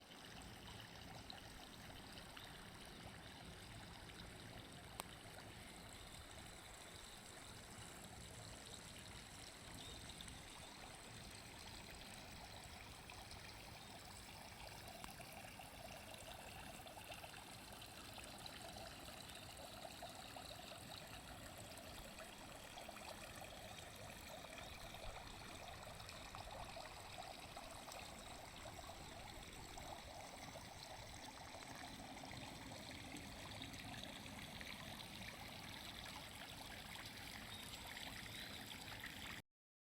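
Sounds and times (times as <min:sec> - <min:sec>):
trickling stream water: 0:00.0 - 0:39.4.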